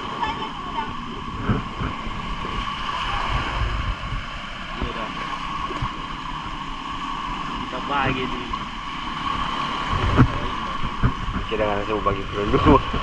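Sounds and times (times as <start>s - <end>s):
faint steady hum: 0.0s - 13.0s
low rumbles: 0.0s - 13.0s
water washing: 0.0s - 13.0s
wind buffeting microphone: 0.0s - 13.0s.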